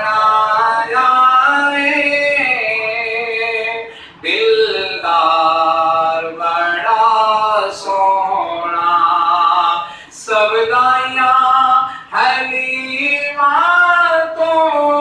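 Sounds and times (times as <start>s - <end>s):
man reciting devotional poem: 0.0s - 15.0s.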